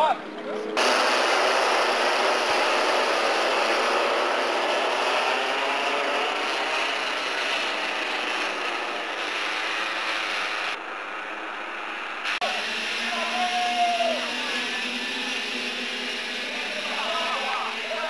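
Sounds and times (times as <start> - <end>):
kart engines droning: 0.0 - 18.0.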